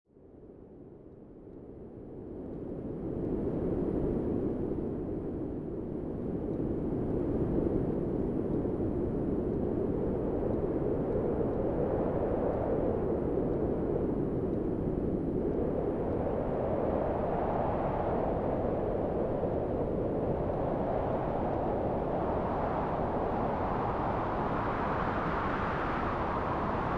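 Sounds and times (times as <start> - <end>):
strong storm wind gusts: 2.1 - 26.9.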